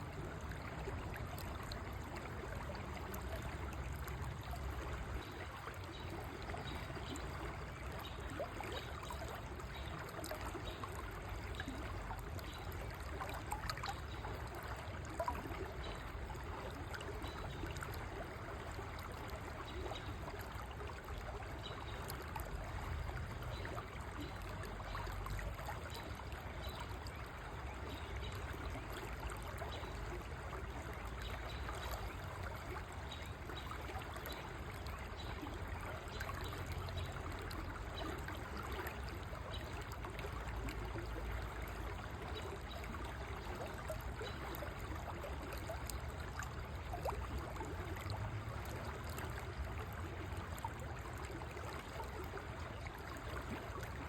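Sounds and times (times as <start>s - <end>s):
low water rumble: 0.0s - 54.0s.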